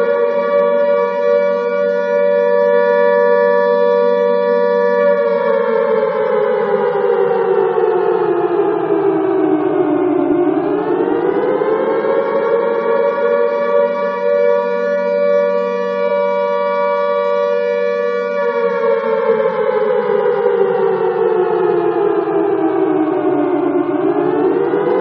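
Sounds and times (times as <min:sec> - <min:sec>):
alarm siren wailing: 0:00.0 - 0:25.0.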